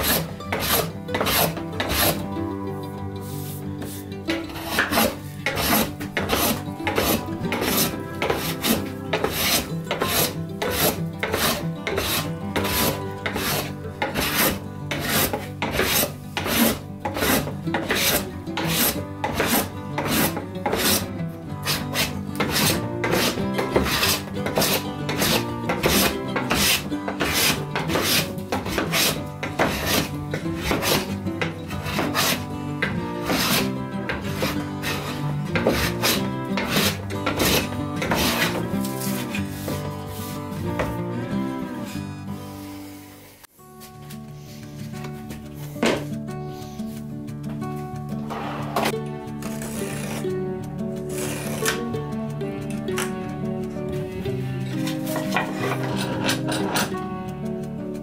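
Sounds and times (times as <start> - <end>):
rhythmic rasping strokes: 0.0 - 43.2, 46.2 - 57.9
background music with held notes: 0.0 - 58.0.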